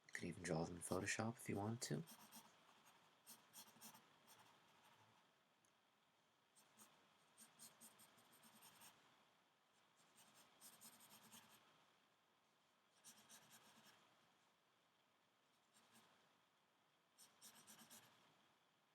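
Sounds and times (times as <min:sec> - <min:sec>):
faint scratching of drawing strokes: 0:00.2 - 0:05.4, 0:06.5 - 0:14.6, 0:15.4 - 0:16.4, 0:17.1 - 0:18.5.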